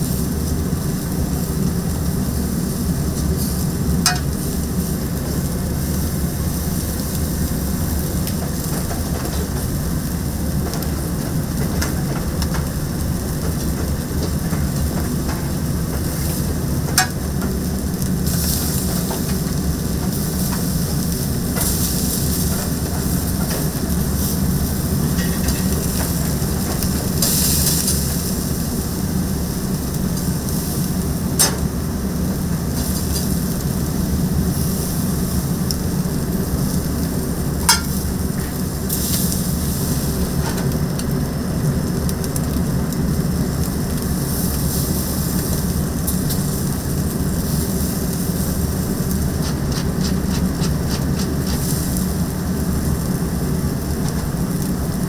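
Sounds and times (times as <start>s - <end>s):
skewers sizzling on a grill: 0.0s - 55.0s.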